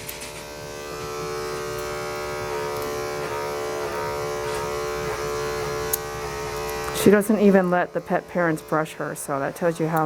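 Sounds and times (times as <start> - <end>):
electric trimmer humming: 0.0 - 10.0.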